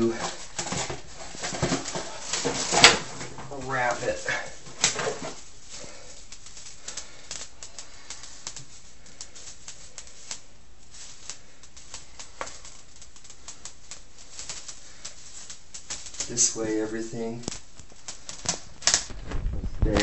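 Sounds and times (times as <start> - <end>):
plastic wrap crackling: 0.0 - 20.0.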